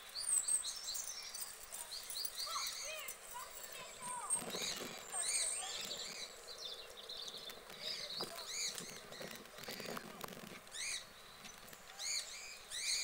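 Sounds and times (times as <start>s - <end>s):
small birds chirping: 0.0s - 13.0s
soft low rustle: 1.4s - 11.9s.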